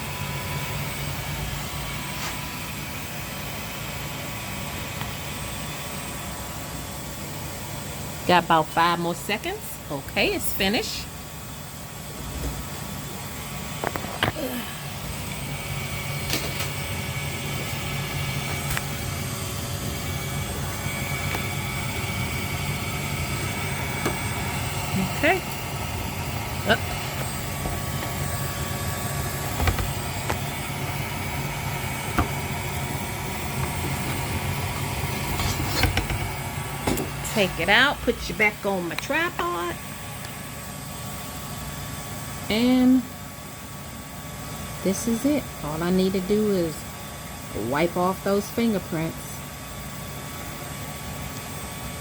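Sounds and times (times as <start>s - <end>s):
laser engraver fans whirring: 0.0s - 52.0s.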